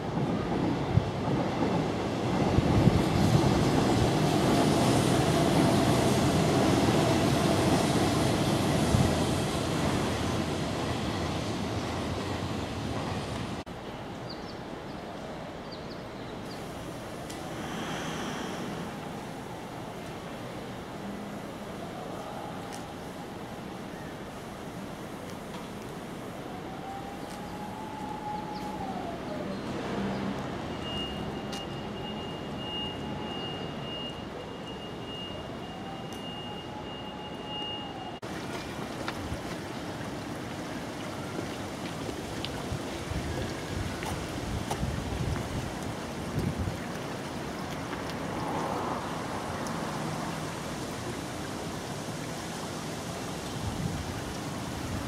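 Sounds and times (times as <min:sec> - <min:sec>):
rushing outdoor noise: 0:00.0 - 0:55.0
street traffic hum: 0:00.0 - 0:55.0.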